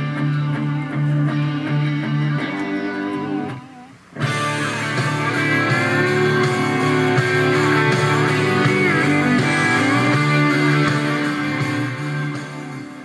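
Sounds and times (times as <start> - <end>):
guitar music through car speakers: 0.0 - 13.0.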